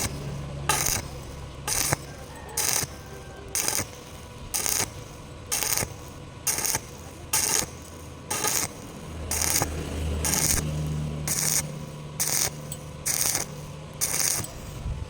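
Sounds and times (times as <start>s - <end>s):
low steady hum: 0.0s - 15.0s
welding arc crackling: 0.0s - 15.0s.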